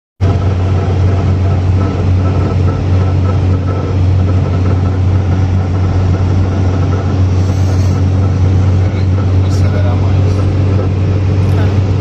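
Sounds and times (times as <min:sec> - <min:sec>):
car road and engine drone: 0:00.2 - 0:12.0.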